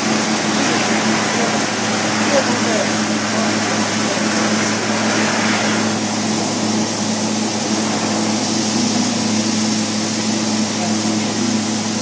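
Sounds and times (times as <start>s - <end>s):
coolant mist spray hissing: 0.0s - 12.0s
machine tool humming: 0.0s - 12.0s.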